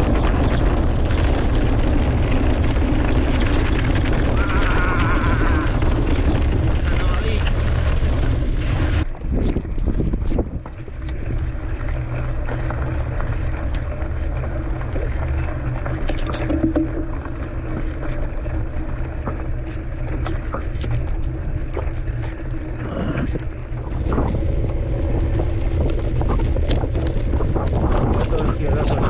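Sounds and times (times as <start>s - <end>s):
bike tyres clicking and rattling: 0.0s - 29.0s
wind rumble on microphone: 0.0s - 29.0s.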